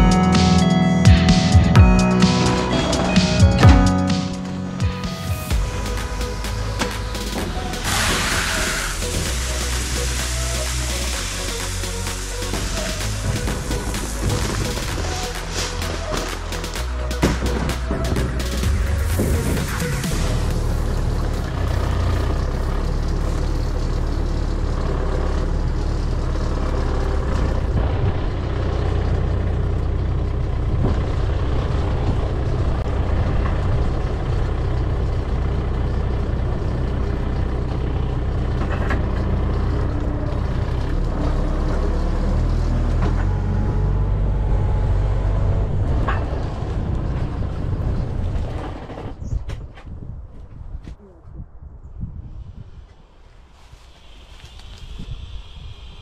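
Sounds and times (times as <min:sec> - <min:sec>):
diesel engine running under load: 0:00.0 - 0:49.3.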